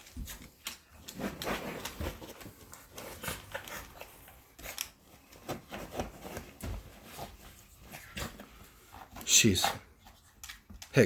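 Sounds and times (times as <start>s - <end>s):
scuffling and rustling: 0.0s - 10.3s
dog play noises: 0.0s - 11.0s.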